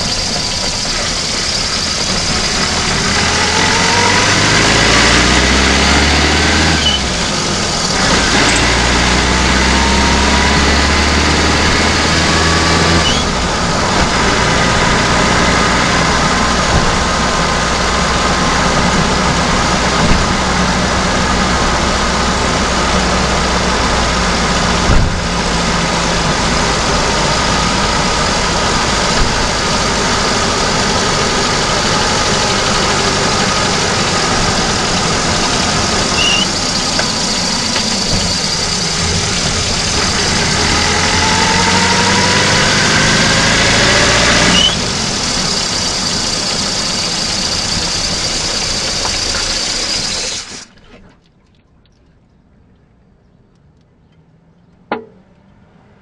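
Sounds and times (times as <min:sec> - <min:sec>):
petrol engine running: 0:00.0 - 0:50.8.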